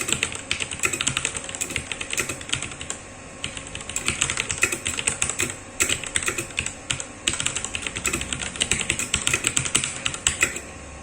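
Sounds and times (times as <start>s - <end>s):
mechanical keyboard typing: 0.0s - 10.7s.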